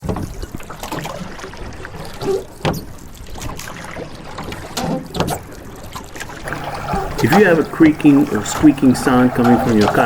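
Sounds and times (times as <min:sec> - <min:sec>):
kayak pedals creaking and knocking: 0:00.0 - 0:10.0
water lapping: 0:00.0 - 0:10.0.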